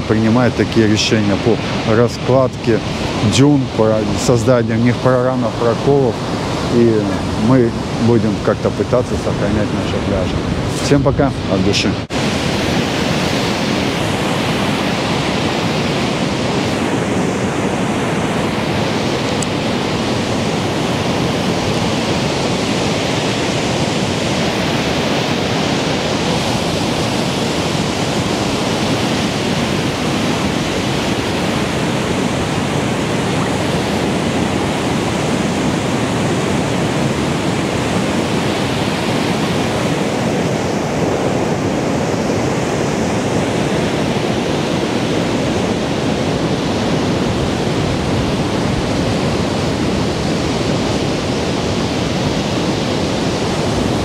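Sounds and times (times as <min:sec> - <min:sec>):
sea surf breaking: 0:00.0 - 0:54.0.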